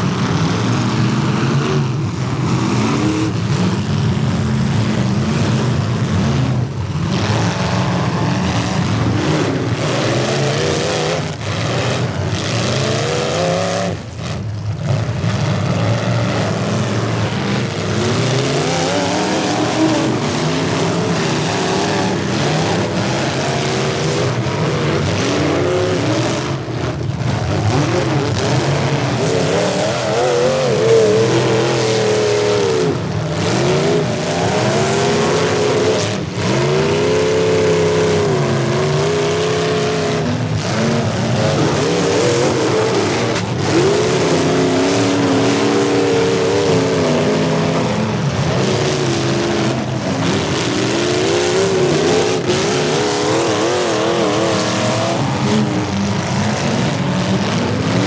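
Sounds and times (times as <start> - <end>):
car engines revving: 0.0 - 58.0
roar of engine and tyre noise: 0.0 - 58.0.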